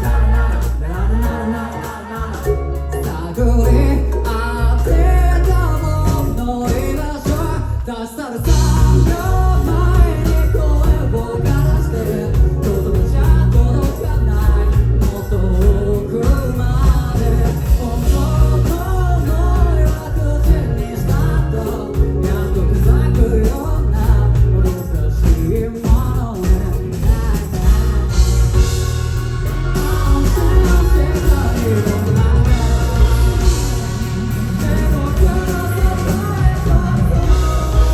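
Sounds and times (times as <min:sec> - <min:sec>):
lead vocal singing: 0:00.0 - 0:37.9
rock band playing live: 0:00.0 - 0:37.9.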